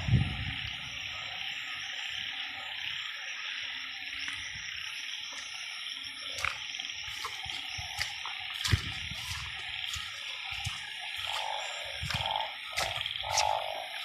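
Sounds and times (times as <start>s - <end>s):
chorus of frogs calling: 0.0s - 14.0s
insects trilling: 0.0s - 14.0s.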